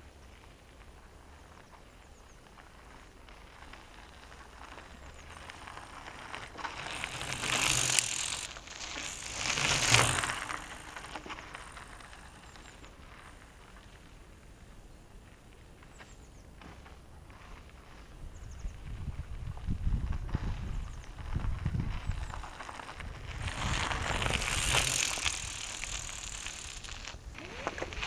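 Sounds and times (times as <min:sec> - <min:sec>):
bike tyres crunching on gravel: 0:00.0 - 0:28.0.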